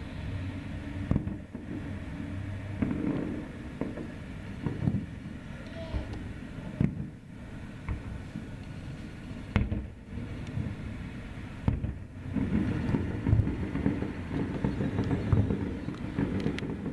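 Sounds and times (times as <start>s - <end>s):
fireworks booming: 0.0s - 16.9s
low rumble of overlapping bursts: 0.0s - 16.9s.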